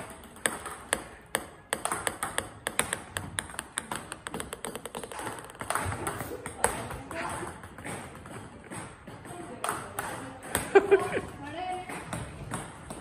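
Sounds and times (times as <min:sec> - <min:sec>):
racket striking ball: 0:00.0 - 0:10.7
table tennis ball bouncing: 0:00.0 - 0:13.0.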